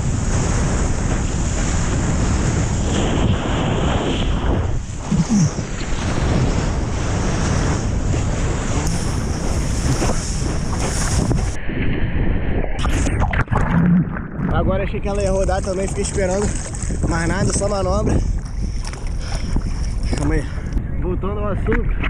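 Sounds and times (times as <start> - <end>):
surf crashing: 0.0 - 20.5
wind buffeting microphone: 0.0 - 22.0.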